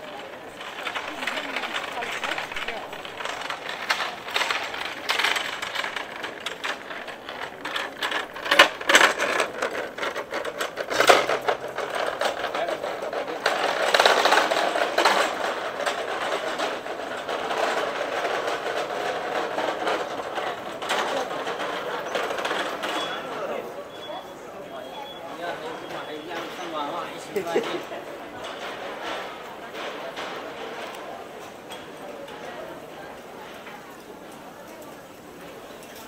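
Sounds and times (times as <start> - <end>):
trolley clattering: 0.0 - 36.0
trolley wheels rattling over paving: 0.0 - 36.0.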